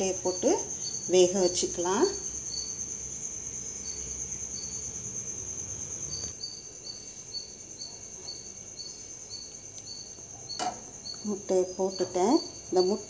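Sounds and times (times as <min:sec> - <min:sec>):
crickets trilling: 0:00.0 - 0:13.0
short insect chirps: 0:00.0 - 0:13.0.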